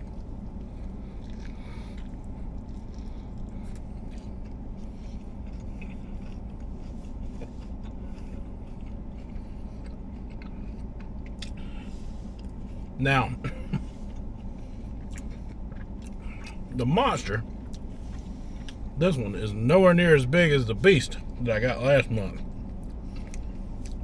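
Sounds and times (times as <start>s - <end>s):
person chewing food: 0.0s - 16.8s, 17.4s - 19.2s, 22.2s - 24.0s
low hum: 0.0s - 24.0s.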